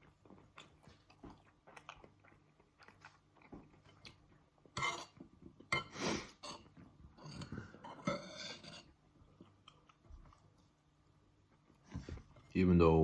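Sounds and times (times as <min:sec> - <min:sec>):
person chewing food: 0:00.0 - 0:12.5.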